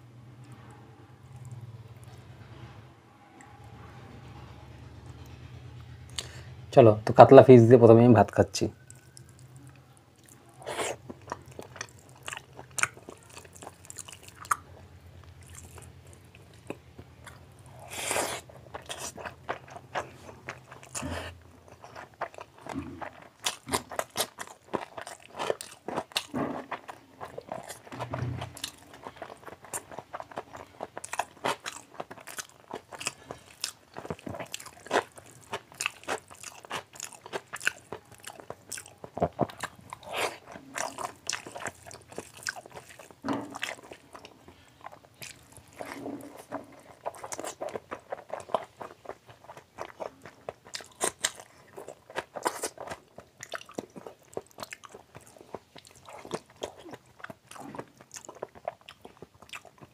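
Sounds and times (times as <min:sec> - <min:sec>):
wet chewing and lip smacking: 0:08.8 - 0:59.9.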